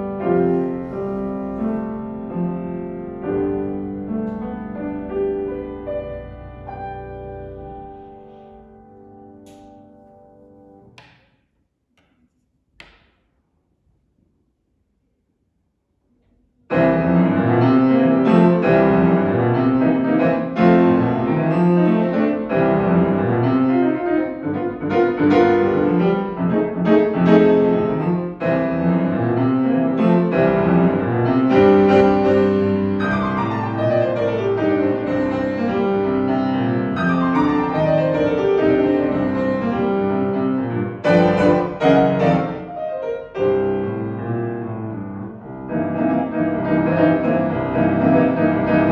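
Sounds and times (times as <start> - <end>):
solo jazz piano: 0.0 - 11.2, 16.6 - 48.9.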